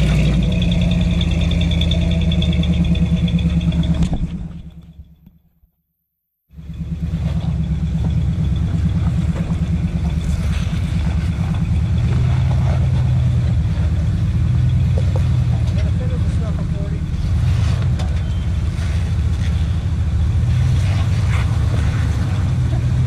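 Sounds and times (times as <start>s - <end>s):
truck engine low drone: 0.0s - 5.5s, 6.5s - 23.0s.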